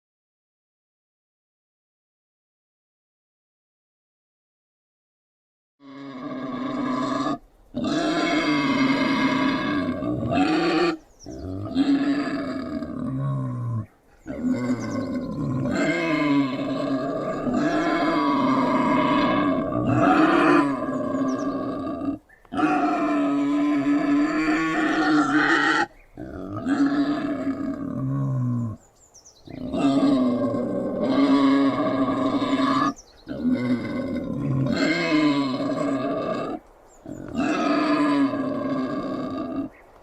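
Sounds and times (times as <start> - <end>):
wild boar grunting: 5.8 - 28.8, 29.5 - 39.9.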